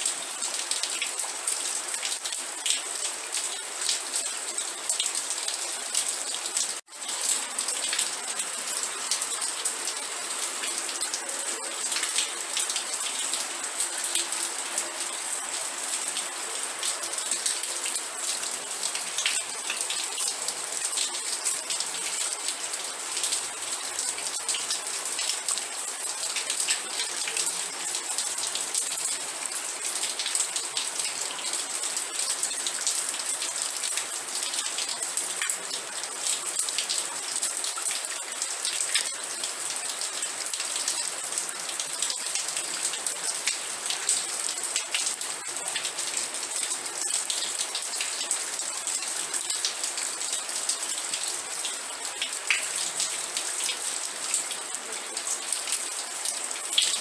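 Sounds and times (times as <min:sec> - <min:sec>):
heavy rain: 0:00.0 - 0:57.0
raindrops striking close by: 0:00.0 - 0:57.0.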